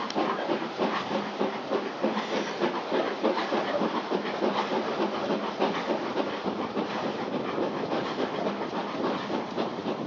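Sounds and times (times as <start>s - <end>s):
train wheels clattering on track: 0.0s - 10.0s.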